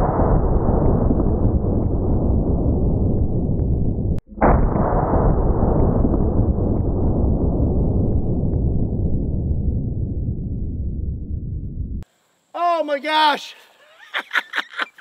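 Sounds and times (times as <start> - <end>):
slowed rifle shot boom: 0.0 - 12.0.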